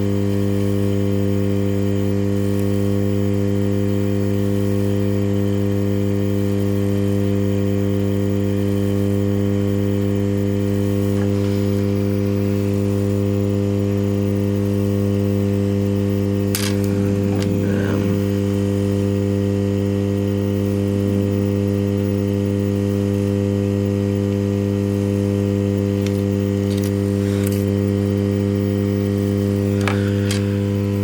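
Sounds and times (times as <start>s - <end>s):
hot air blower buzzing: 0.0s - 31.0s.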